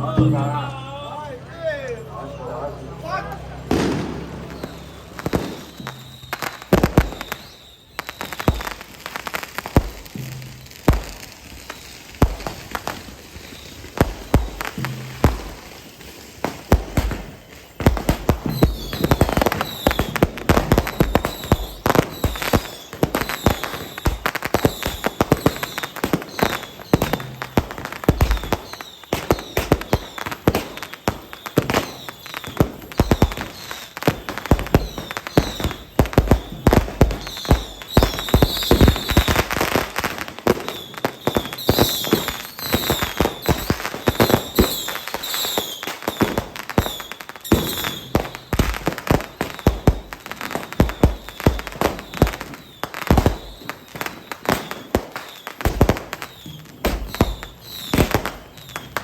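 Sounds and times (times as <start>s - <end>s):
fireworks and firecrackers banging: 0.0s - 59.0s.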